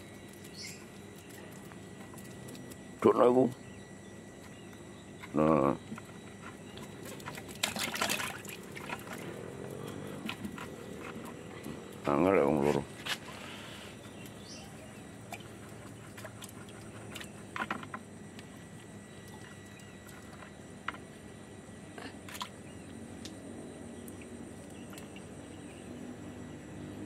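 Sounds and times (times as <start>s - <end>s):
faint outdoor background: 0.0s - 27.0s.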